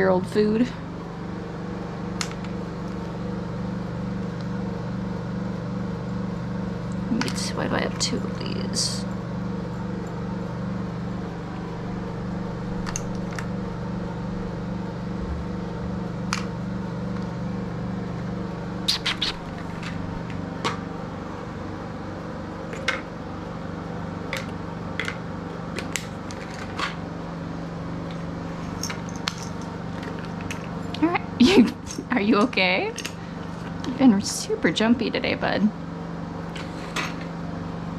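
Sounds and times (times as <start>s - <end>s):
low electrical hum: 0.0s - 37.9s.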